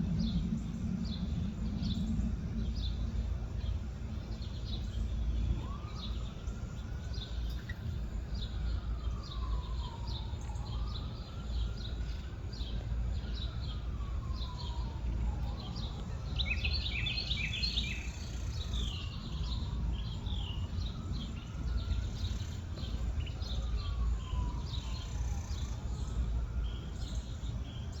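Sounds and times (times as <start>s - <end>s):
steady low rumble: 0.0s - 24.9s
small birds chirping: 0.2s - 28.0s.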